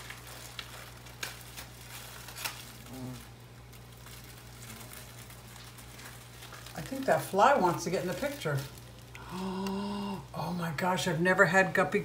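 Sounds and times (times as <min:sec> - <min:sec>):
aquarium filter humming: 0:00.0 - 0:12.0.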